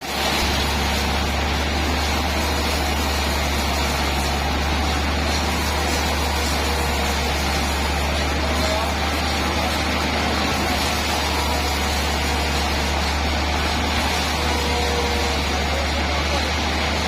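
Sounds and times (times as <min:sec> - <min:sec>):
sawmill machinery engine drone: 0:00.0 - 0:17.0.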